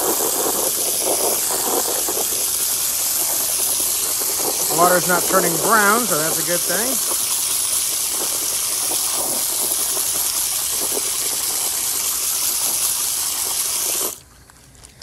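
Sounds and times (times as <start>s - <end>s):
hose spraying water into tub: 0.0s - 14.3s.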